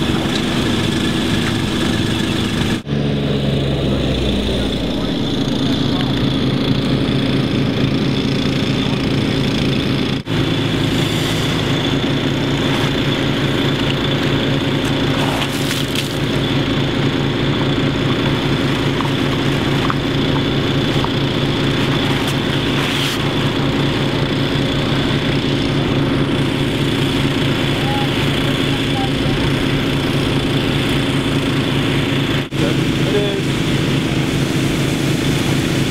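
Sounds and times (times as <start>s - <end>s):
water pump engine running: 0.0s - 35.9s.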